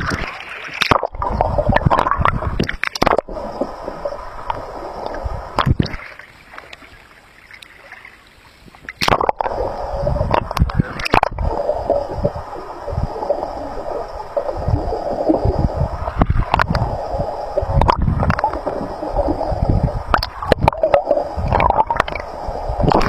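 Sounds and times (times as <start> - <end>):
underwater gurgling and rushing water: 0.0 - 23.0.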